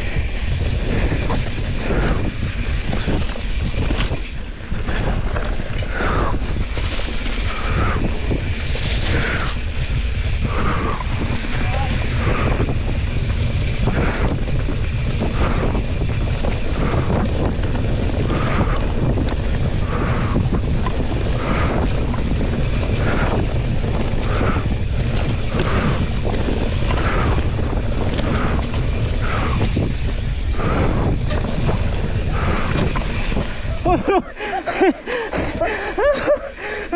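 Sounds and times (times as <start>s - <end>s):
bike tyres rumbling on rough ground: 0.0s - 36.9s
wind rushing over microphone: 0.0s - 36.9s.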